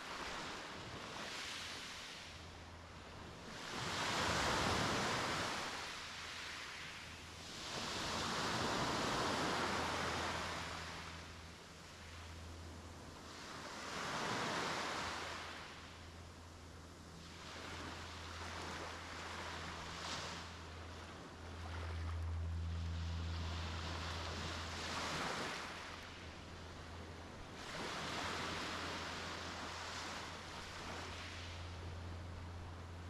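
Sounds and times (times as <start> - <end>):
low steady hum: 0.0 - 33.0
sea waves breaking on beach: 0.0 - 33.0.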